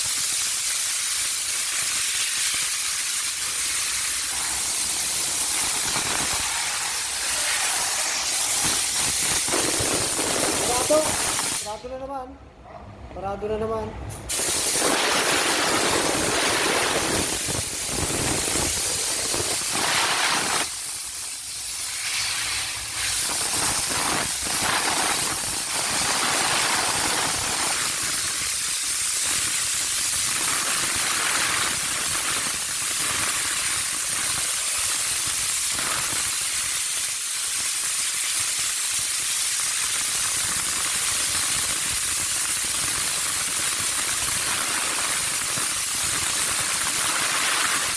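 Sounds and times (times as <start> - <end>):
steam jet hissing: 0.0 - 11.8, 14.3 - 47.9.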